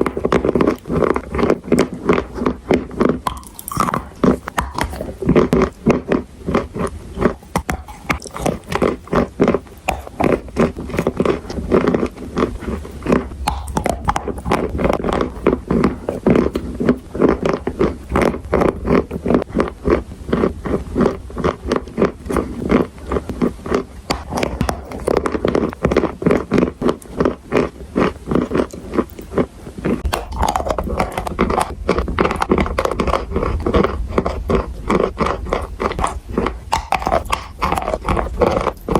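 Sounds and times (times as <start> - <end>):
person chewing crunchy chalk: 0.0 - 38.9.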